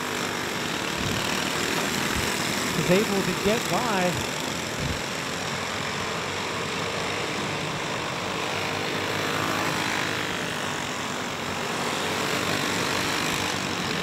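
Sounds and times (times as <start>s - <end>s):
go-kart engines racing: 0.0s - 14.0s.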